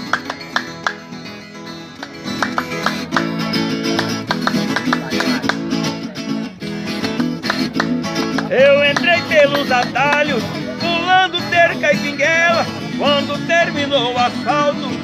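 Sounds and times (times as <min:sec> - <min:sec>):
acoustic guitars plucked and strummed: 0:00.0 - 0:15.0.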